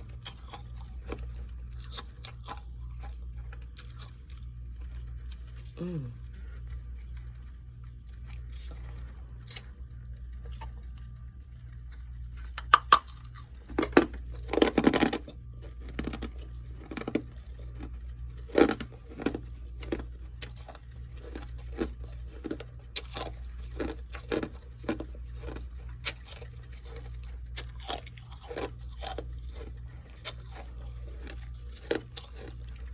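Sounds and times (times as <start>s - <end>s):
person chewing crunchy frost: 0.0s - 32.9s.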